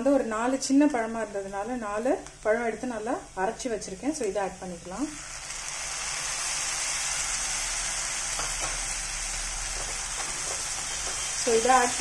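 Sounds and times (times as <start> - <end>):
tomato puree sizzling in oil: 0.0 - 12.0.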